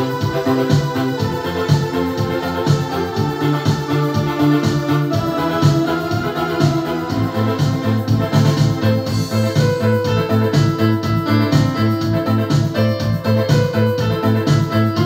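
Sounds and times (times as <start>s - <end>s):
keyboard melody over bass notes: 0.0s - 15.0s
regular beat: 0.0s - 15.0s.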